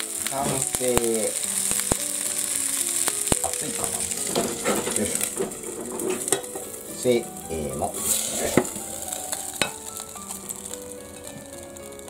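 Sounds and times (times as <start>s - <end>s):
dumplings sizzling in oil: 0.0s - 12.0s.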